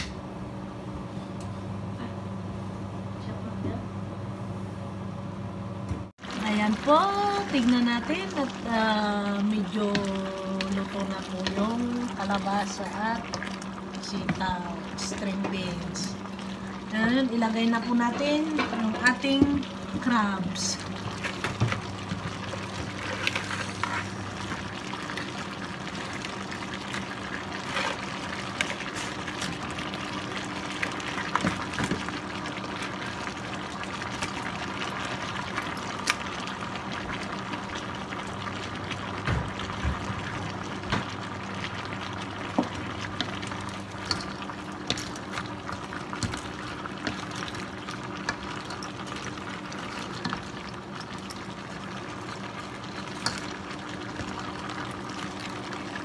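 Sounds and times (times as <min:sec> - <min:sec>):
sauce bubbling in a wok: 0:06.2 - 0:15.3, 0:15.9 - 0:17.9, 0:20.8 - 0:56.0.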